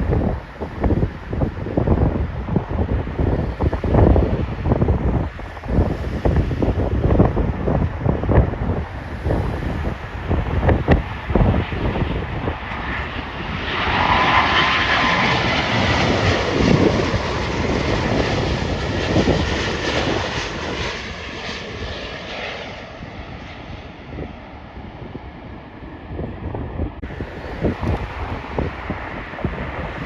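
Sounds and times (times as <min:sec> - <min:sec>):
jet airliner engine noise: 0:00.0 - 0:30.0
wind buffeting microphone: 0:00.0 - 0:30.0.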